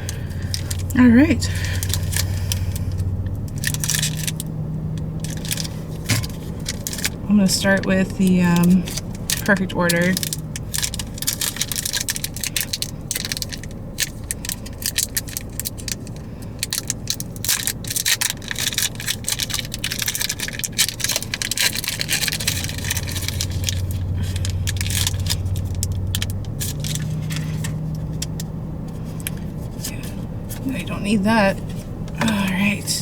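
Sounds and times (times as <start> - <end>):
foil pack tearing and crinkling: 0.0 - 28.4
cards rustling: 0.0 - 32.8
steady low hum: 0.0 - 33.0.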